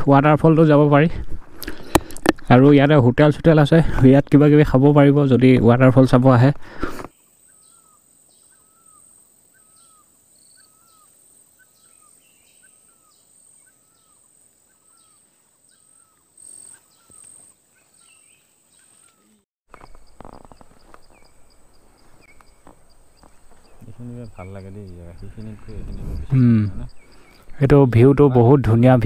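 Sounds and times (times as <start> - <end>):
outdoor noise: 0.0 - 29.0.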